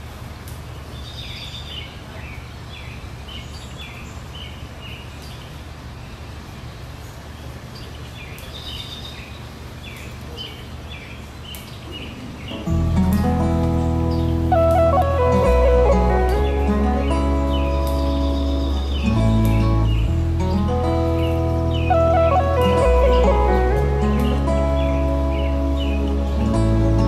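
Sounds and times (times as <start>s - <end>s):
songbird chirping: 0.6s - 27.0s.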